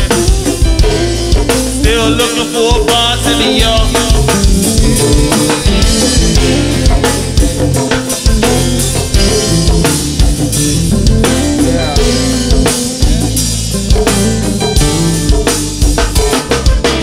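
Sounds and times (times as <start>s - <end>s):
hip-hop beat with heavy bass: 0.0s - 17.0s.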